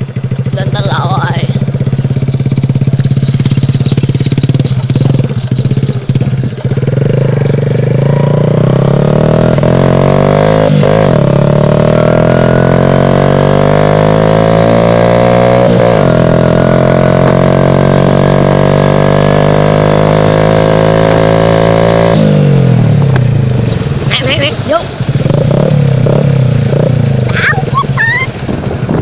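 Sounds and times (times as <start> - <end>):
motorbike engine accelerating: 0.0 - 29.0.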